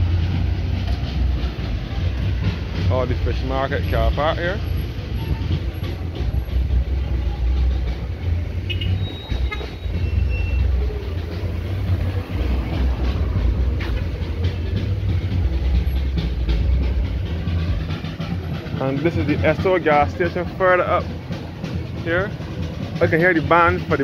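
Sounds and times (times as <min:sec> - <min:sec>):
deep street rumble: 0:00.0 - 0:24.0.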